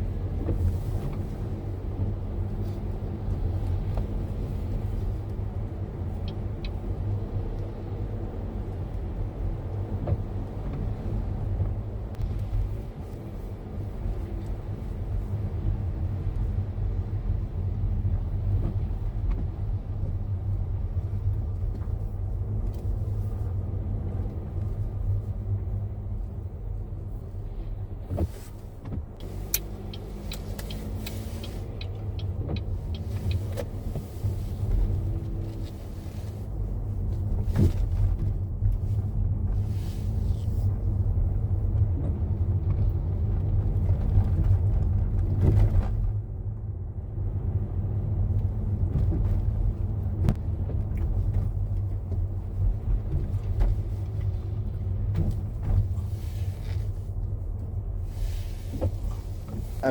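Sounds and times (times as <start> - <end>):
engine and road rumble: 0.0 - 59.9.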